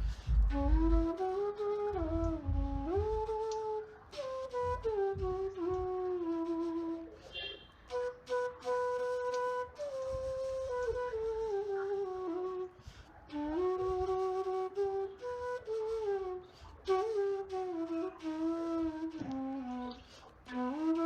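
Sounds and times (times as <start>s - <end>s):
slow flute melody: 0.0s - 21.0s.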